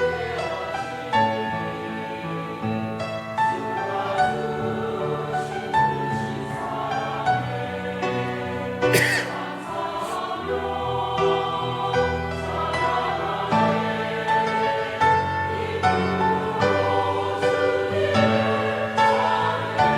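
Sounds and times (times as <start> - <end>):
choir singing a hymn: 0.0 - 19.9.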